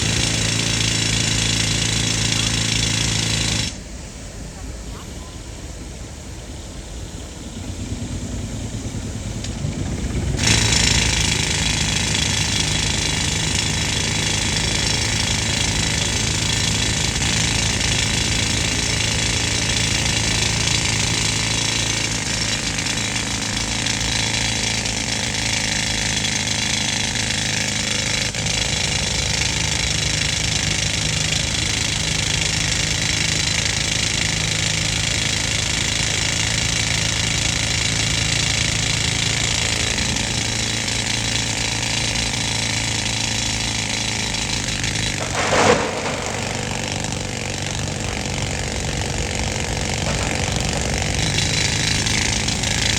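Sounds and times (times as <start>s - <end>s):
pneumatic drill hammering: 0.0s - 4.0s, 7.8s - 52.9s
air compressor engine running: 0.0s - 52.9s.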